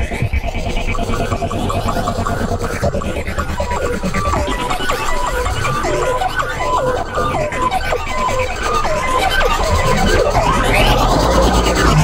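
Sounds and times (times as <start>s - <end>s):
electronic trance music: 0.0s - 12.0s.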